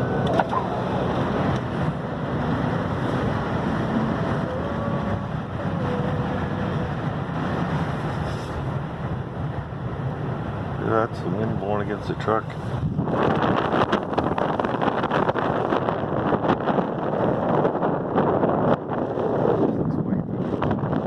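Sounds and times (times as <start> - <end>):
blizzard wind against truck: 0.0 - 21.0.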